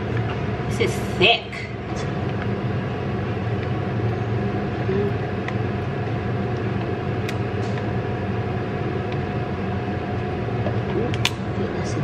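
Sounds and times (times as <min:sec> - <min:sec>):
oven fan humming: 0:00.0 - 0:12.0.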